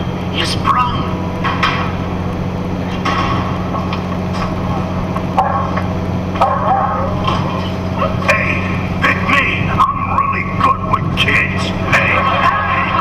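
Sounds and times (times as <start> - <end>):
truck engine and tyres droning: 0.0 - 13.0.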